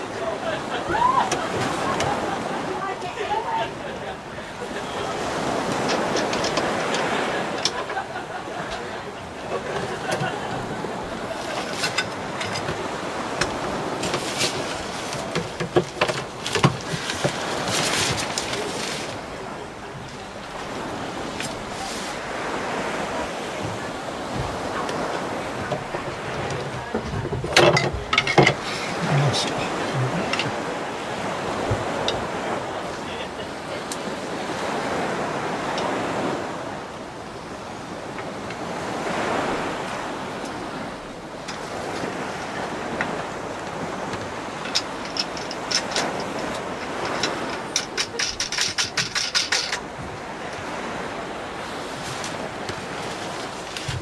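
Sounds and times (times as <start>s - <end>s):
waves: 0.0s - 54.0s
wind: 0.0s - 54.0s.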